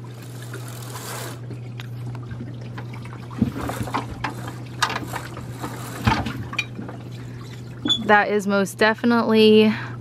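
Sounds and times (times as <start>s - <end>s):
water lapping against boat: 0.0s - 8.6s
low steady hum: 0.0s - 10.0s.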